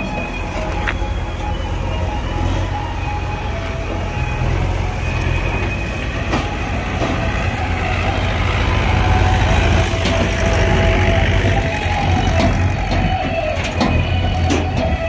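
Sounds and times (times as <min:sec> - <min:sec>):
diesel tractor engine running: 0:00.0 - 0:15.0
steel trolley rattling and clanking: 0:00.0 - 0:15.0.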